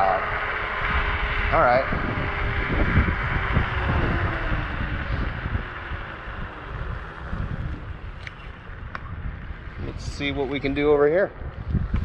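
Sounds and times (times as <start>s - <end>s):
low uneven rumble of scooter ride: 0.0s - 12.0s
wind buffeting microphone: 0.0s - 12.0s.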